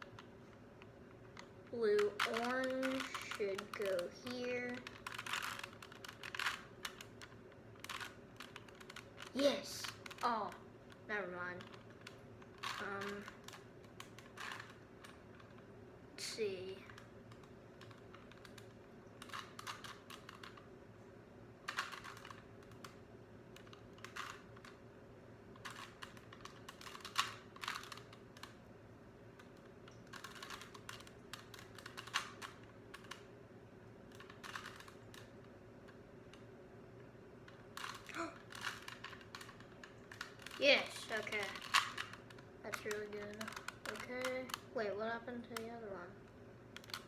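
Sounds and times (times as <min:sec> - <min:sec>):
puzzle cube plastic clicking: 0:00.0 - 0:15.7, 0:16.6 - 0:20.7, 0:21.6 - 0:24.8, 0:25.5 - 0:33.4, 0:34.0 - 0:47.0.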